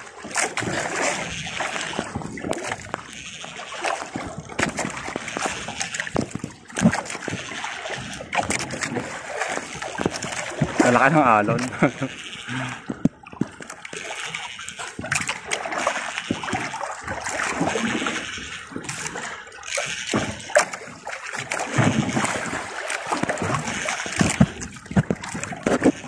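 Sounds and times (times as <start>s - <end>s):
water knocking on boat: 0.0s - 12.1s, 12.8s - 26.0s
waves slapping against boat hull: 0.0s - 26.0s.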